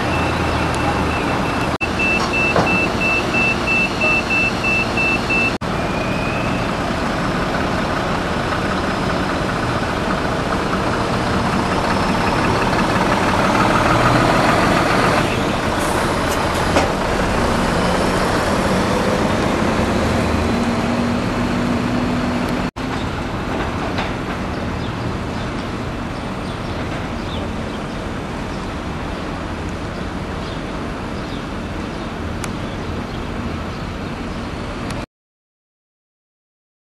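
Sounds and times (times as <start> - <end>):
heavy diesel truck running: 0.0 - 34.9.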